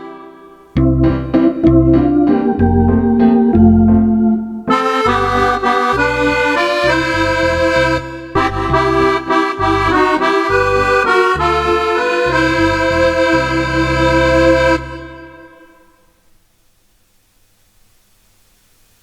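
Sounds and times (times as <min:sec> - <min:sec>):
accordion melody: 0:00.0 - 0:15.8.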